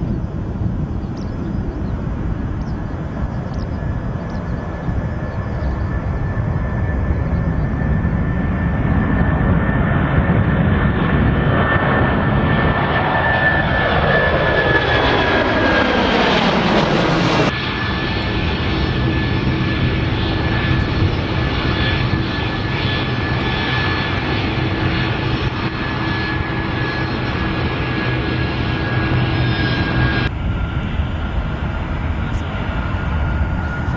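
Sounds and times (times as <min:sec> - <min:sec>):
jet airliner passing: 0:00.0 - 0:33.9
jet engine whine with low hum: 0:00.0 - 0:33.9.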